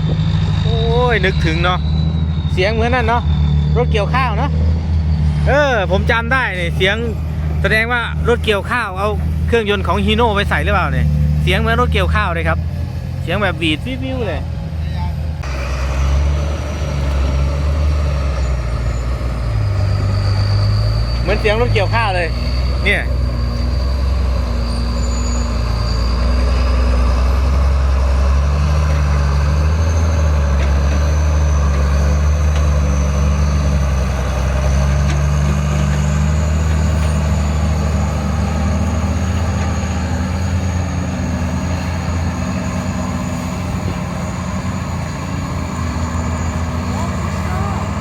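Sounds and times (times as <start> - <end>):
high turbo whistle: 0.0 - 12.4, 14.7 - 28.6, 29.2 - 48.0
diesel truck engine running: 0.0 - 48.0.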